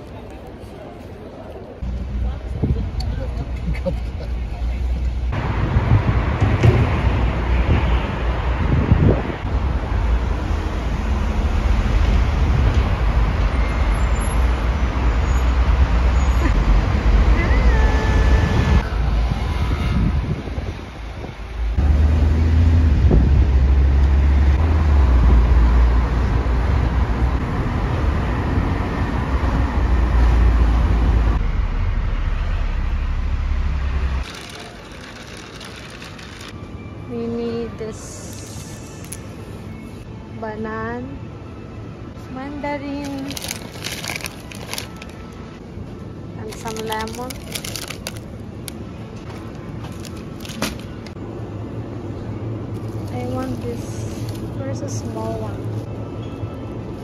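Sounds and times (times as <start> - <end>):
road and engine rumble: 0.0 - 57.0.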